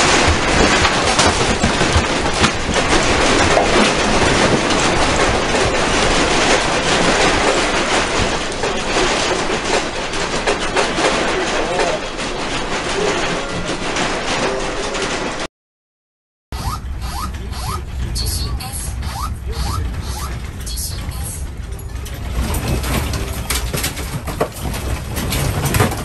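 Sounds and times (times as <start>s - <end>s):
earthquake low rumble: 0.0s - 15.5s, 16.6s - 26.0s
objects rattling and clattering: 0.0s - 15.5s, 16.6s - 26.0s.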